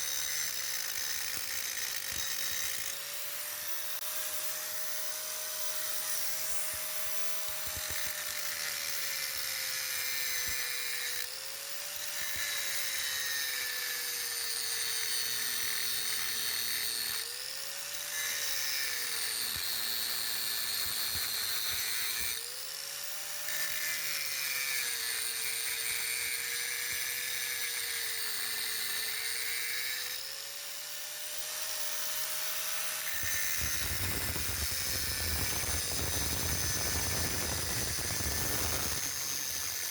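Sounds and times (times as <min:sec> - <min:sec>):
power grinder grinding metal: 0:00.0 - 0:39.9.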